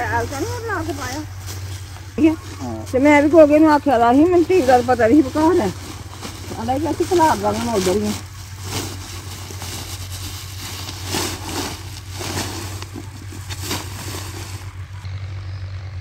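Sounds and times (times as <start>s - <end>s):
plastic sacks rustling and crinkling: 0.0s - 15.0s
tractor engine droning: 0.0s - 16.0s.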